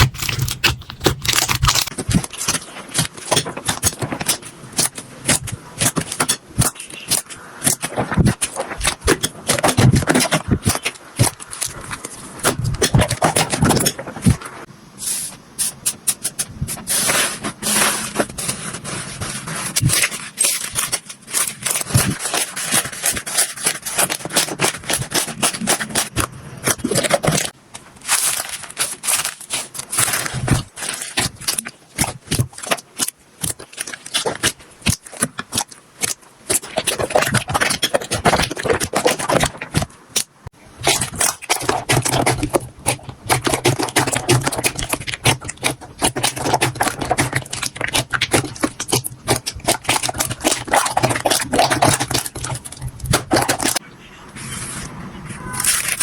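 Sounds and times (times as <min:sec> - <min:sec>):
slime clicking and squelching: 0:00.0 - 0:14.5, 0:17.5 - 0:53.8.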